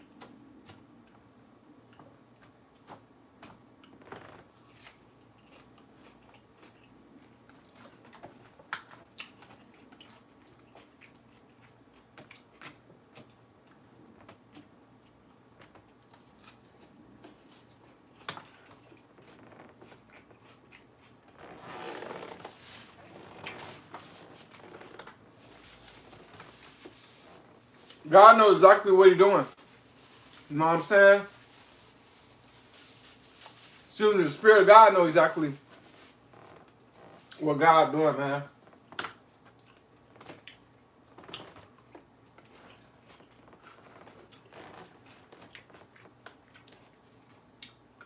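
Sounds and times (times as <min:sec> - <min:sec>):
chewing crisp lettuce: 0:00.0 - 0:28.1, 0:29.5 - 0:34.0, 0:35.6 - 0:37.4, 0:38.6 - 0:48.0.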